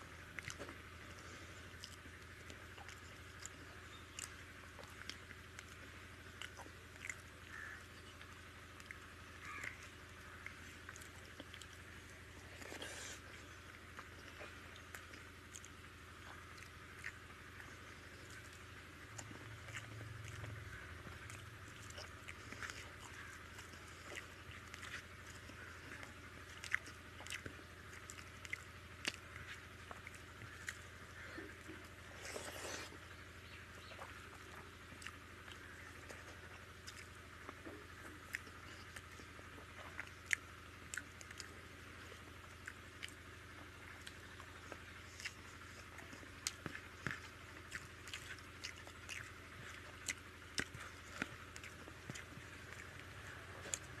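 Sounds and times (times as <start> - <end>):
chewing and mouth smacks: 0.0 - 54.0
fingers squishing rice: 0.2 - 54.0.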